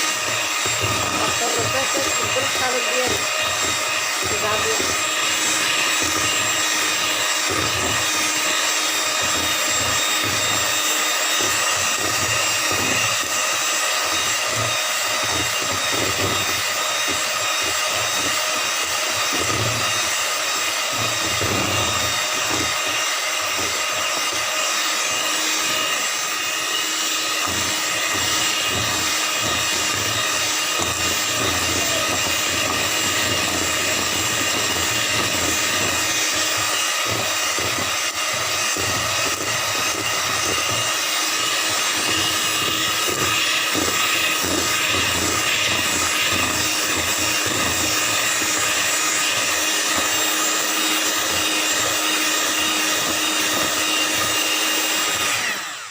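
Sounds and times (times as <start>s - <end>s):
electric hand mixer running: 0.0s - 55.9s.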